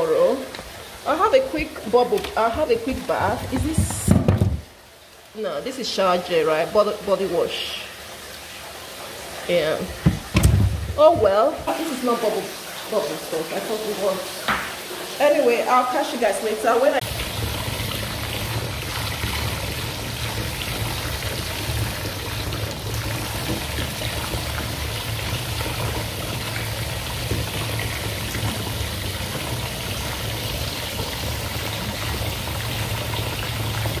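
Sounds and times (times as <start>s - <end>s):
water pouring into bathtub: 0.0s - 34.0s.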